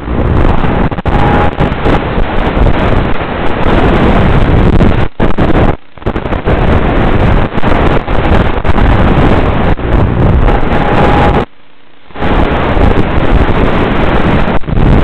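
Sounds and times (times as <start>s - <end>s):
rough wind rush: 0.0s - 15.0s.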